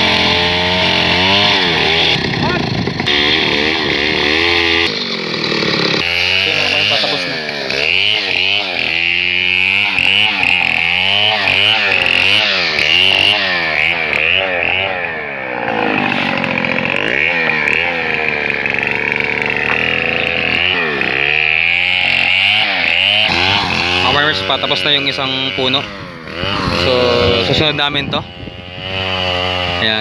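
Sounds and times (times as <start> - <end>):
chainsaw cutting log: 0.0 - 30.0.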